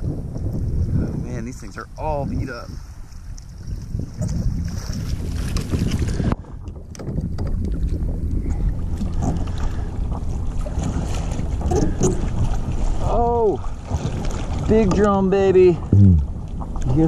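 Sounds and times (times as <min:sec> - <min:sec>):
wind rumbling on microphone: 0:00.0 - 0:17.0
water sloshing against board: 0:02.6 - 0:17.0.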